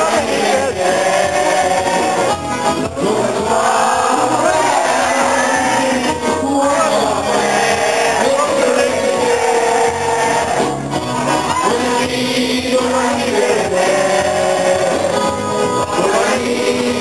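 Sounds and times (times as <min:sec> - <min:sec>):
live band playing sega music: 0:00.0 - 0:17.0
person singing long notes: 0:00.0 - 0:17.0.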